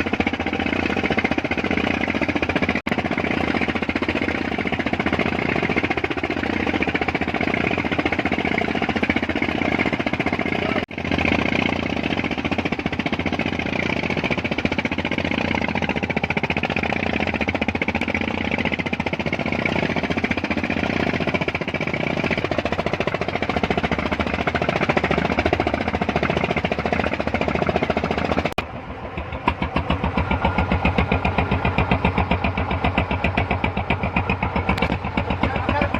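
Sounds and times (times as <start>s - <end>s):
engine running loudly: 0.0s - 35.9s.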